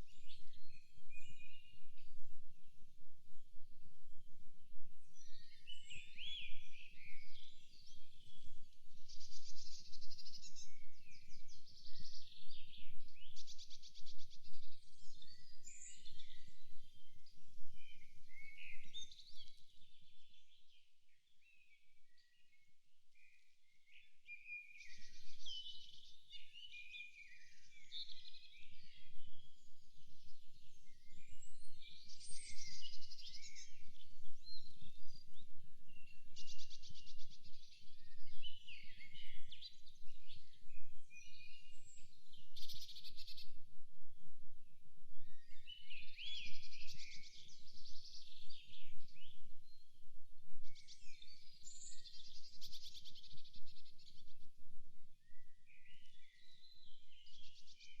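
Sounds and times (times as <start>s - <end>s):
songbirds singing and calling: 0.0s - 58.0s.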